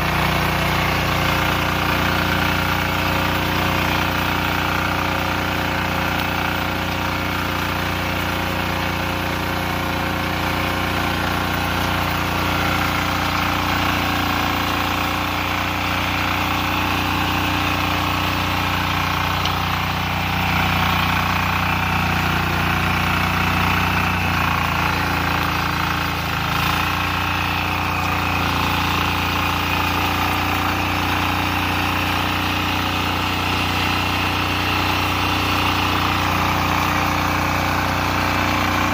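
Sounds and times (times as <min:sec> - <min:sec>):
diesel engine running under load: 0:00.0 - 0:38.9
rotary tines tilling soil: 0:00.0 - 0:38.9.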